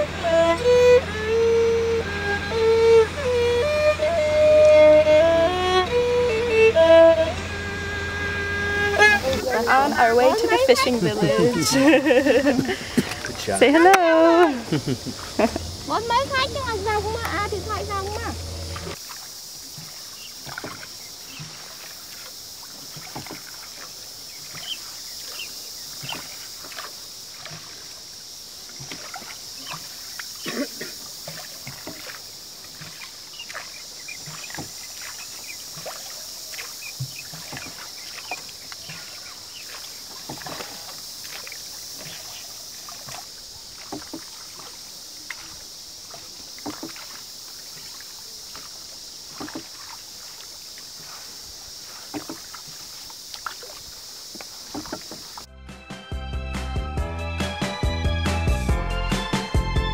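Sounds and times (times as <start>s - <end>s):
oars splashing and knocking: 0.0s - 55.5s
steady high hiss: 0.0s - 55.5s.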